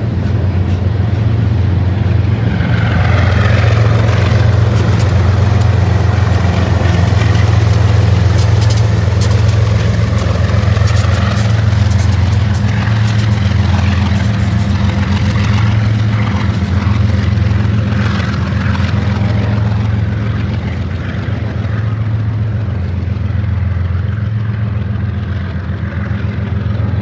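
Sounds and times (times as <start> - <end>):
diesel locomotive engine drone: 0.0 - 27.0.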